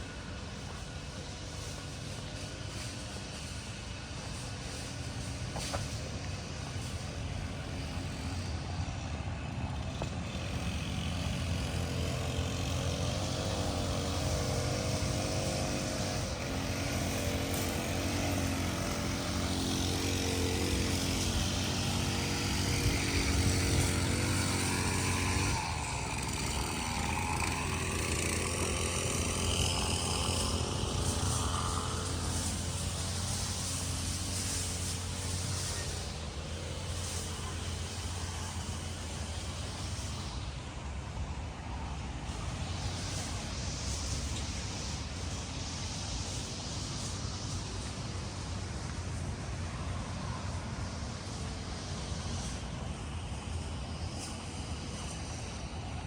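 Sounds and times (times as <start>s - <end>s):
engine drone: 0.0s - 56.0s
pitch-shifting whine: 1.6s - 49.4s.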